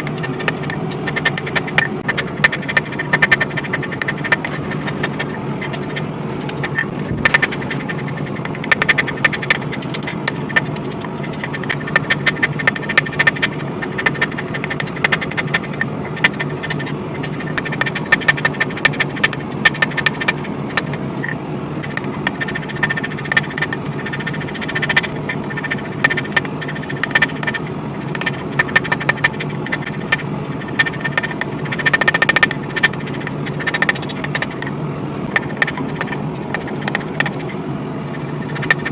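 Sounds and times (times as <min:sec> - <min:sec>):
forge burner roaring: 0:00.0 - 0:38.9.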